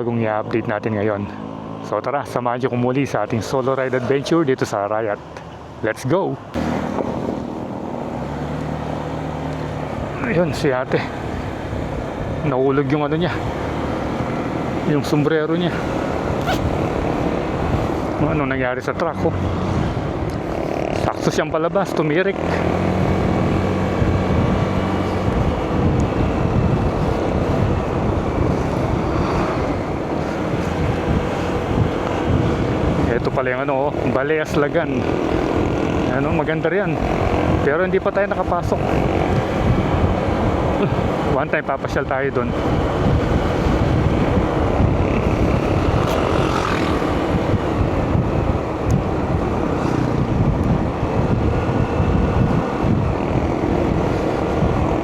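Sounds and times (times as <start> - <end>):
wind rushing over microphone: 0.0 - 55.0
low engine hum: 6.4 - 55.0.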